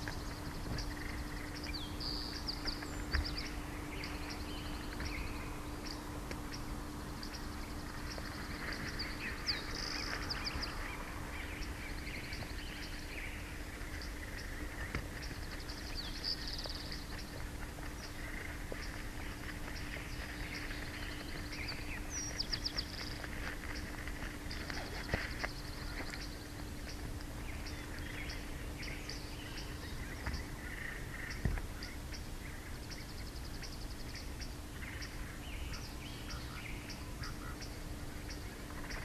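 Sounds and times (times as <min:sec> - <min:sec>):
low hum: 0:00.0 - 0:39.0
small birds chirping: 0:00.0 - 0:39.0.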